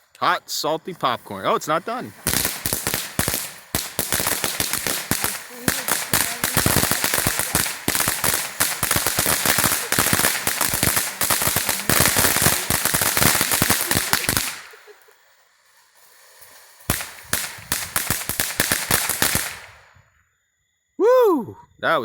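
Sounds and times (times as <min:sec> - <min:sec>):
firework fountain crackling: 0:00.0 - 0:20.0.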